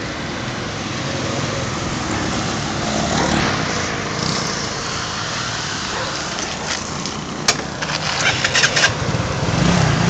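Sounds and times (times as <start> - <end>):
motor scooters passing: 0.4 - 10.0.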